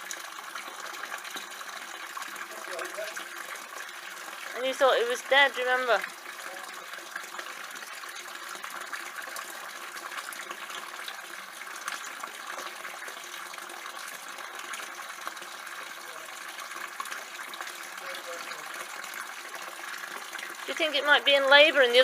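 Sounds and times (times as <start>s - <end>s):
running water splashing: 0.0s - 22.0s.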